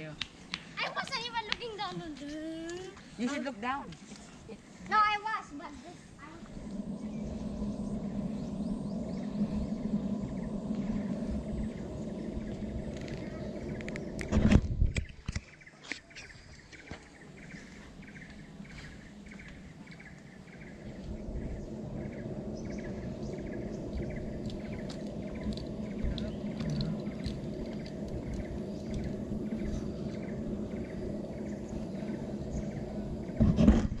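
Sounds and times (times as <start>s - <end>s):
low rushing noise: 5.0s - 15.6s, 17.1s - 34.0s.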